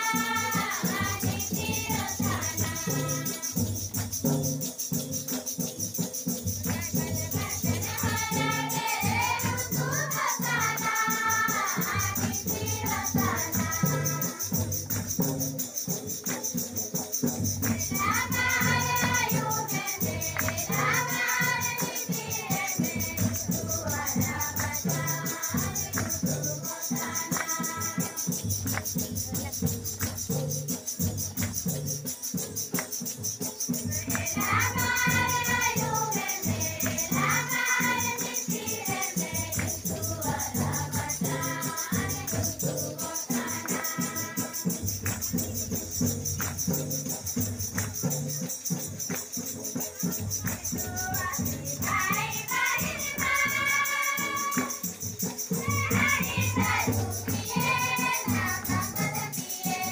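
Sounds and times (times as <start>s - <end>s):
group singing devotional song: 0.0s - 30.5s, 33.7s - 59.9s
hand drums beating: 0.0s - 59.9s
shaker rattle: 0.0s - 59.9s.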